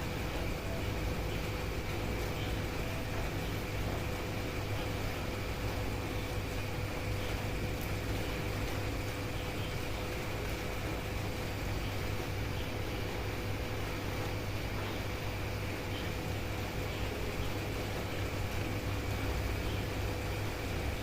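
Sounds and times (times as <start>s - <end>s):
low steady hum: 0.0s - 21.0s
steady rain: 0.0s - 21.0s.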